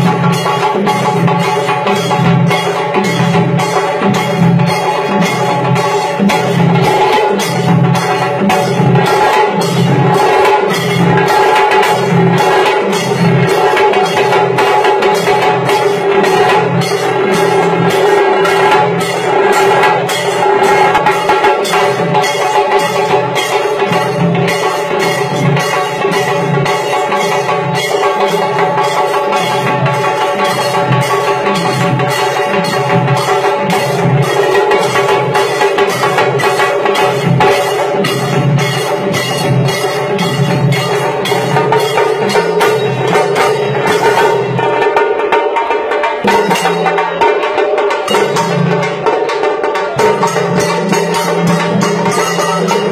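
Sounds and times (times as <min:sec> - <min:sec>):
tassa drum ensemble: 0:00.0 - 0:52.9
sustained ringing tones: 0:00.3 - 0:44.6.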